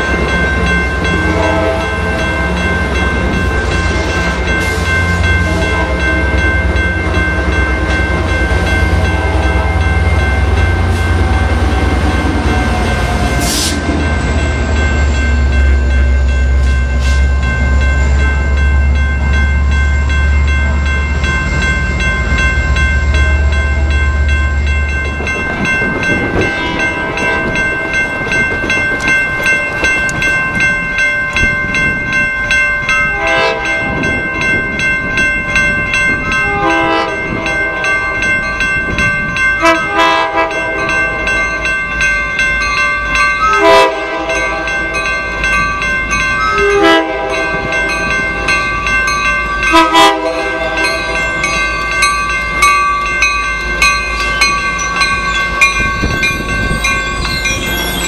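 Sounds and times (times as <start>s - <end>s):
rail noise: 0.0s - 58.0s.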